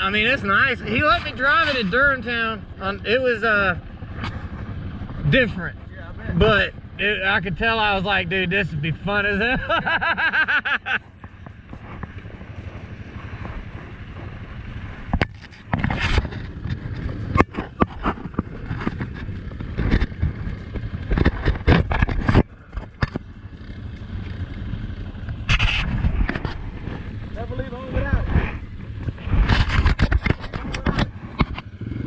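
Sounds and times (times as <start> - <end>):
atv engines idling: 0.0 - 32.0.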